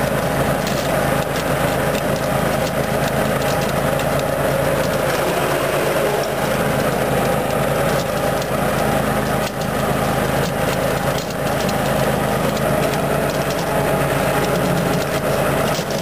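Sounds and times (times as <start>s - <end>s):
riding mower engine running: 0.0s - 16.0s.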